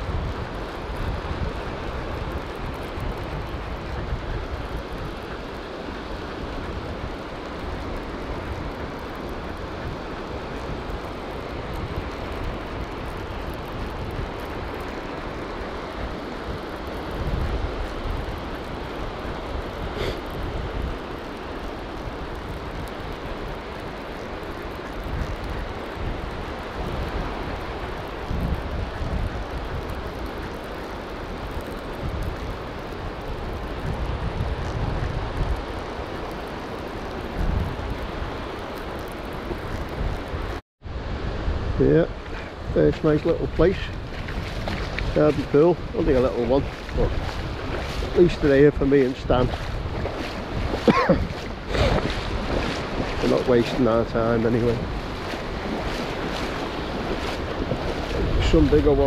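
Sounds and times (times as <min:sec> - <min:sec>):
surf: 0:00.0 - 0:59.0
wind buffeting the microphone: 0:00.0 - 0:59.0.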